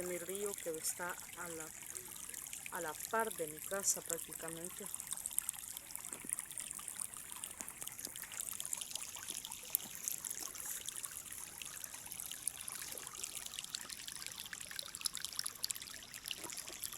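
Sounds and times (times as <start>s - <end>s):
small water splashes: 0.0s - 16.9s.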